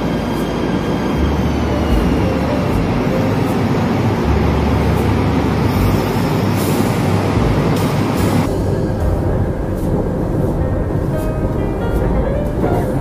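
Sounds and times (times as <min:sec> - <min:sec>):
electric train rumbling to a stop: 0:00.0 - 0:13.0.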